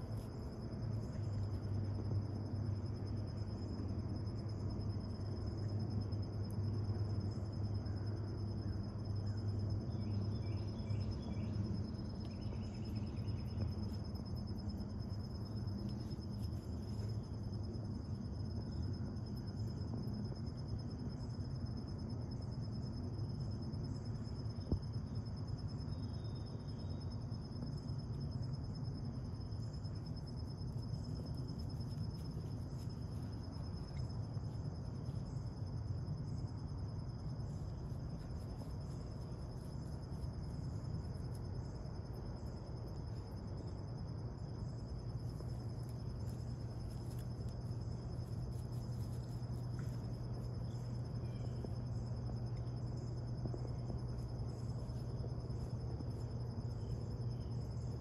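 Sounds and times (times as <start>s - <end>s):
high insect tone: 0.0s - 58.0s
insects pulsing trill: 0.0s - 58.0s
low steady rumble: 0.0s - 58.0s.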